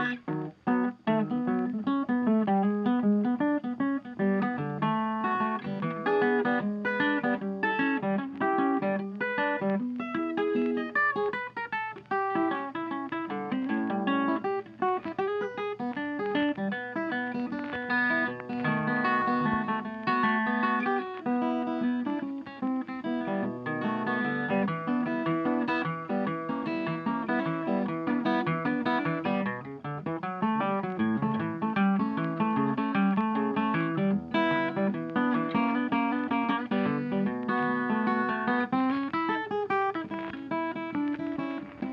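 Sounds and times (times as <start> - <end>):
acoustic guitar plucking: 0.0 - 41.9.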